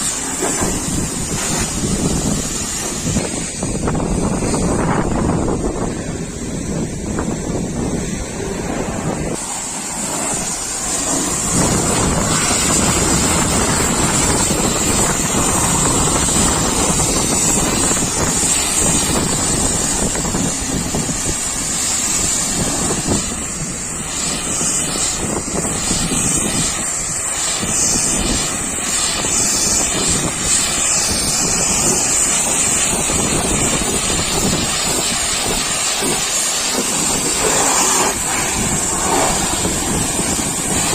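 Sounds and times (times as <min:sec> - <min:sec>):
pressure washer jet hissing: 0:00.0 - 0:40.9.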